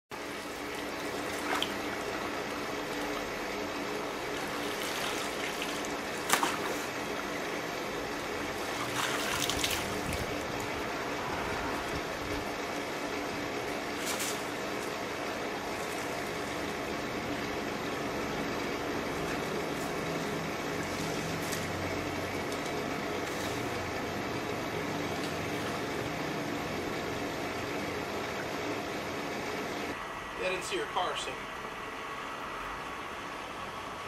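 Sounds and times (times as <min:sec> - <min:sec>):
pool water trickling: 0:00.2 - 0:30.2.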